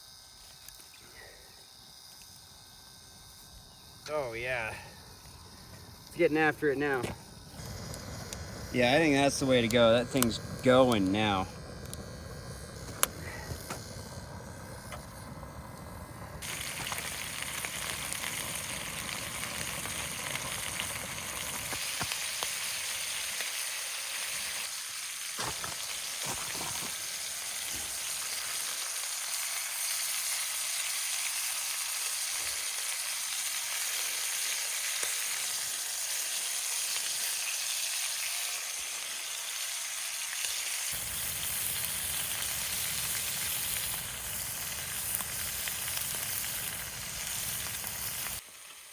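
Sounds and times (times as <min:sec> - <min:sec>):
food sizzling in a pan: 0:00.0 - 0:48.9.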